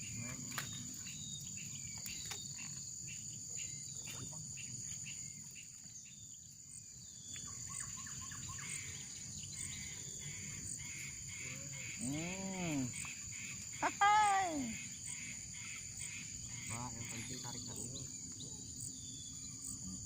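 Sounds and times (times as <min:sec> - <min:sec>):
bird chirps: 0:00.0 - 0:20.0
insects chirring: 0:00.0 - 0:20.0.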